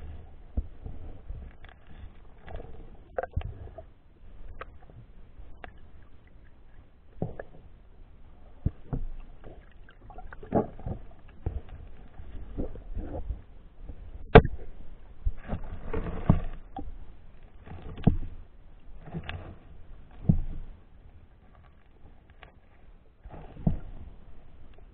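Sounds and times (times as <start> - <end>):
underwater scraping and rustling: 0.0 - 24.9
underwater knocks and clicks: 0.5 - 6.4, 7.1 - 7.8, 8.5 - 20.8, 23.2 - 24.9.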